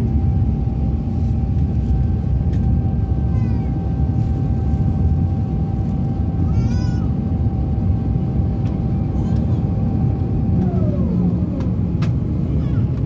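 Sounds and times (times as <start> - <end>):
constant hum: 0.0 - 13.0
jet engine and airflow rumble: 0.0 - 13.0.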